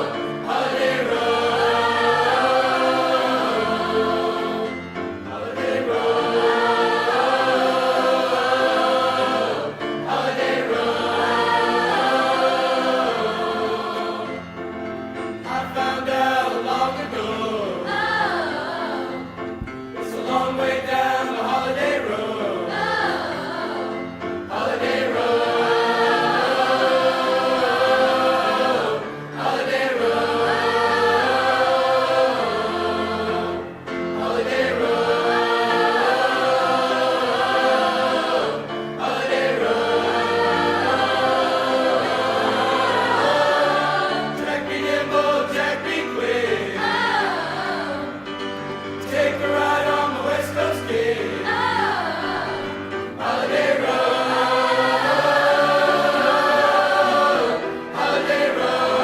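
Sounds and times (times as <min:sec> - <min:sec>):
vocal ensemble singing in harmony: 0:00.0 - 0:59.0.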